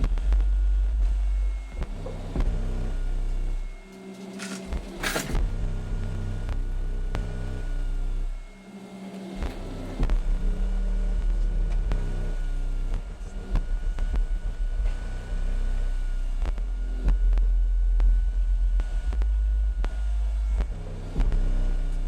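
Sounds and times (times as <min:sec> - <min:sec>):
deep bass tone from subwoofers: 0:00.0 - 0:22.0.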